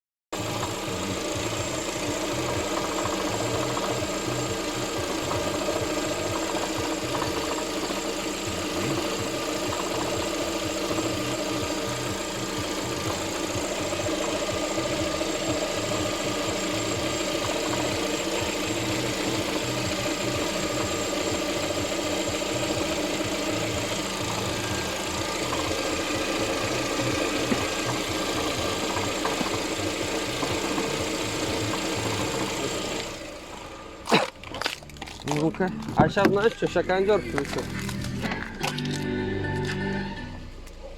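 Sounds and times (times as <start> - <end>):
car engine idling with knock: 0.4 - 40.9.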